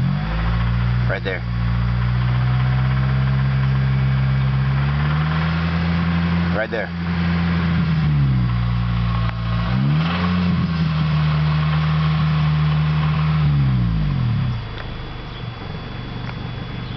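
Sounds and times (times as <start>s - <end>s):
car engine revving while driving: 0.0s - 16.9s
engine ticking: 0.0s - 16.9s.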